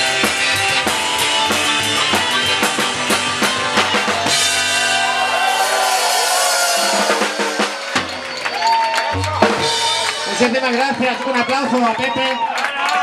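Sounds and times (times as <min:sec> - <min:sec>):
drum hits: 0:00.0 - 0:10.9
rock and roll band playing: 0:00.0 - 0:12.2.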